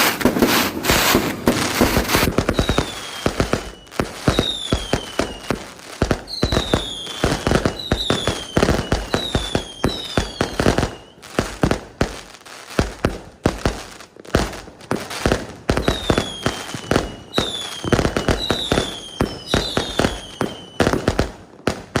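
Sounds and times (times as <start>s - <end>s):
whistling firework shells: 0.0s - 11.6s, 15.7s - 22.0s
fireworks bangs and crackling: 0.0s - 22.0s.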